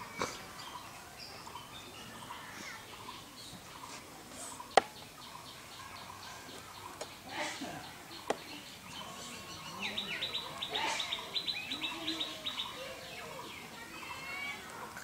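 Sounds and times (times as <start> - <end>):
bird chirping: 0.0 - 14.6.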